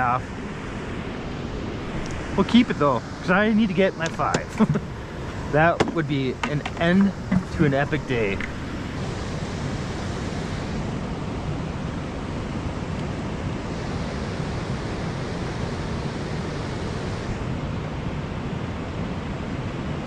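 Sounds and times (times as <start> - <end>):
waves: 0.0 - 20.0
wind: 0.0 - 20.0.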